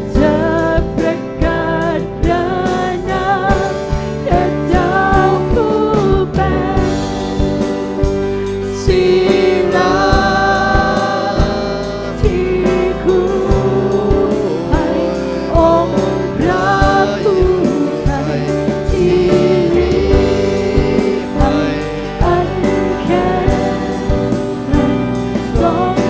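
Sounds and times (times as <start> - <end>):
singers singing together: 0.0 - 26.0
worship band playing: 0.0 - 26.0.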